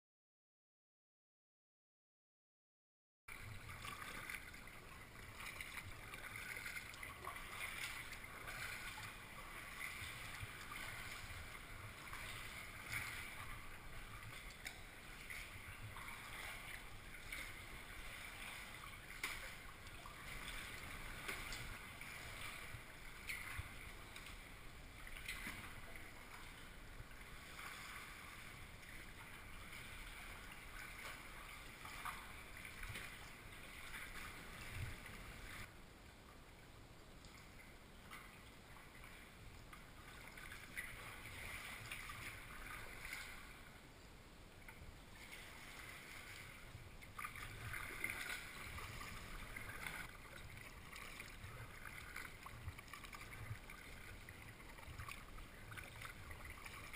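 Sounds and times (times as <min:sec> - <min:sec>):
paddle splashing in water: 0:03.3 - 0:35.7, 0:37.3 - 0:43.8, 0:44.7 - 0:56.9.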